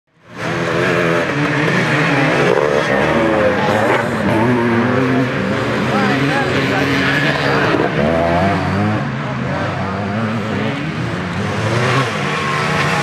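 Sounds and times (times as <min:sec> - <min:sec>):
motocross bike engines revving: 0:00.2 - 0:13.0.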